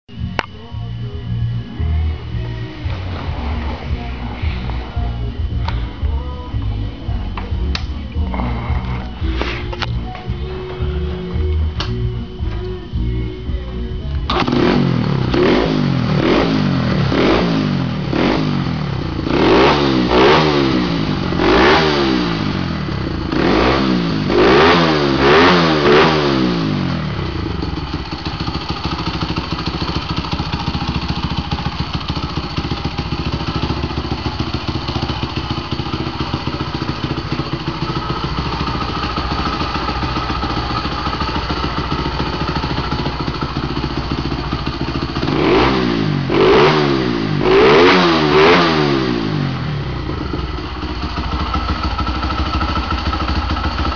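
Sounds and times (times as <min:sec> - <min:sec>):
motorcycle engine revving and idling: 0:00.1 - 0:53.9.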